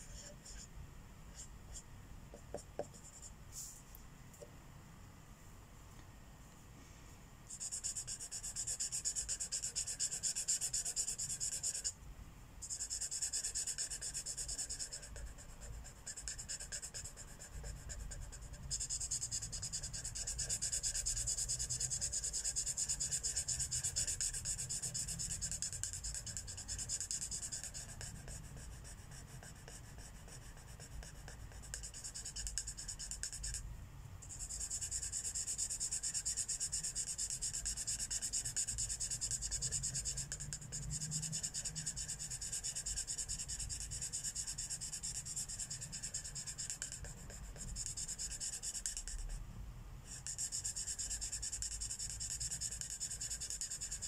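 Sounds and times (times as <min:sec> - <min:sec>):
marker rubbing on paper: 0:00.0 - 0:00.7, 0:07.5 - 0:11.9, 0:12.6 - 0:33.6, 0:34.2 - 0:49.4, 0:50.1 - 0:54.0.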